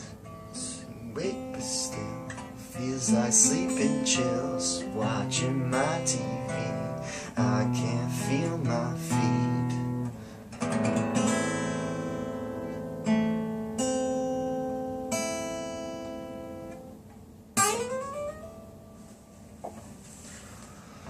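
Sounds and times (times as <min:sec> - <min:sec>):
acoustic guitar strummed chords: 0:00.0 - 0:19.4.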